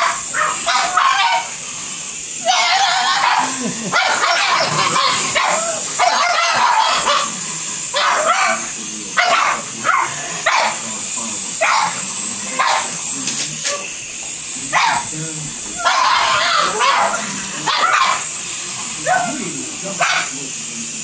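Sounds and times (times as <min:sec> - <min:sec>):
dogs barking and yipping: 0:00.0 - 0:01.7, 0:02.4 - 0:10.9, 0:11.6 - 0:15.1, 0:15.7 - 0:20.4.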